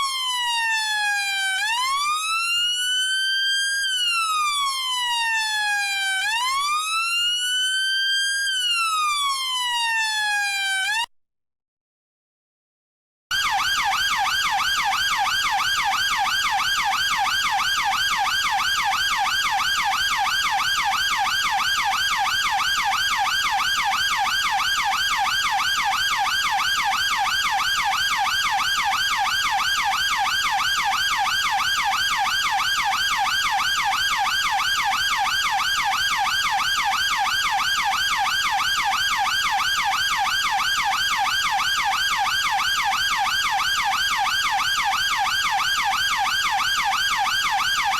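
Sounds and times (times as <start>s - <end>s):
police siren yelping: 0.0s - 11.0s, 13.3s - 47.9s.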